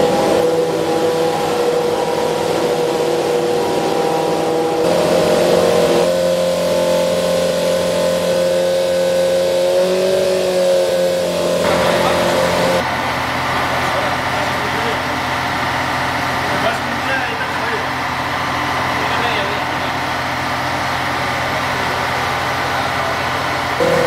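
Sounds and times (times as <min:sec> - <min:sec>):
race car engine running: 0:00.0 - 0:24.0.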